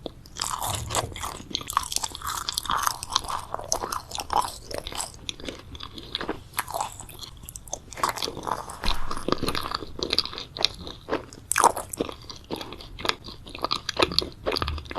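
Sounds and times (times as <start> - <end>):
chewing crunchy food: 0.0 - 14.9.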